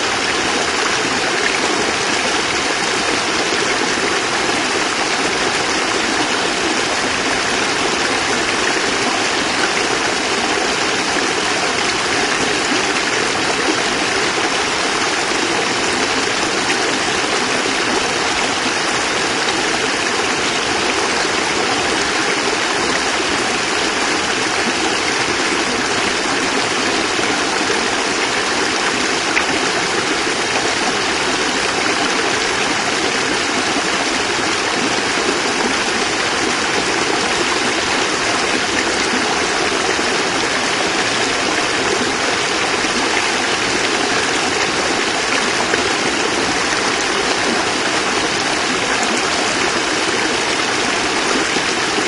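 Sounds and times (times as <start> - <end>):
water running over rocks: 0.0 - 52.0.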